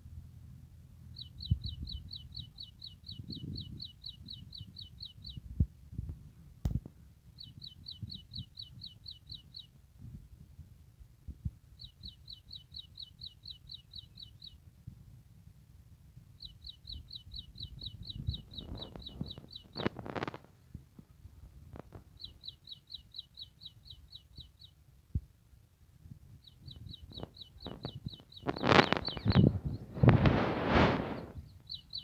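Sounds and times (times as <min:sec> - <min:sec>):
songbird singing: 0:00.0 - 0:09.9, 0:11.4 - 0:14.9, 0:16.2 - 0:32.0.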